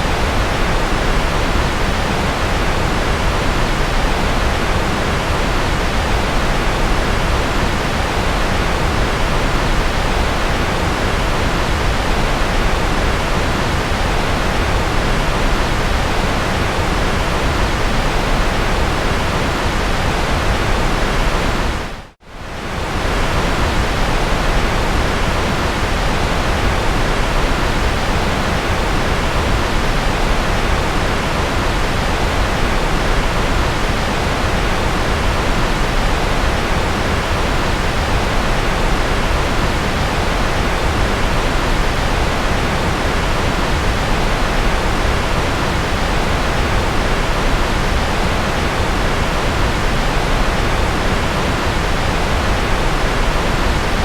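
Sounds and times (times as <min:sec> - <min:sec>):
rushing white noise: 0:00.0 - 0:54.0.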